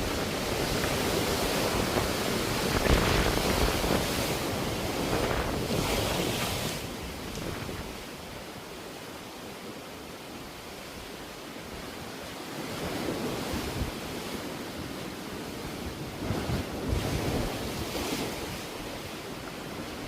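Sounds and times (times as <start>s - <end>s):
wind rumbling on microphone: 0.0s - 8.8s, 10.8s - 20.0s
sea waves washing in: 0.0s - 20.0s.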